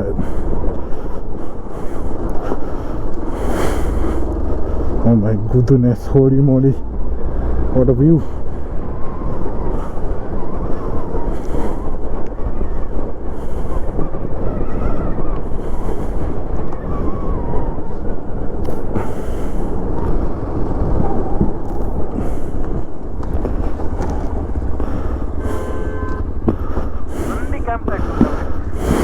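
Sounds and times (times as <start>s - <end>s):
wind buffeting microphone: 0.0s - 29.0s
motorcycle engine running: 2.0s - 14.4s, 17.4s - 29.0s.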